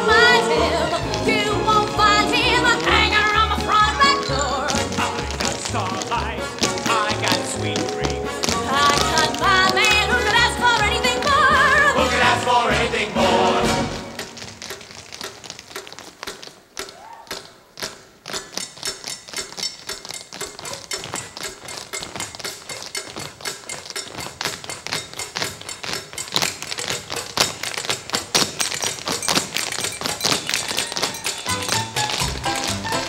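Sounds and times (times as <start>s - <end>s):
tap shoes striking stage floor: 0.0s - 33.0s.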